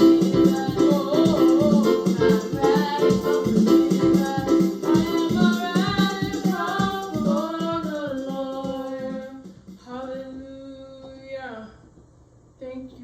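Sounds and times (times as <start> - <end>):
person singing: 0.0 - 11.2.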